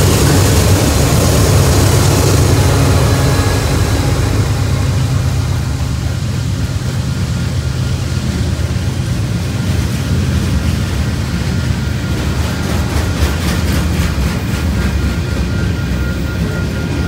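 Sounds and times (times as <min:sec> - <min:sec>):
freight cars rolling on rails: 0:00.0 - 0:17.0.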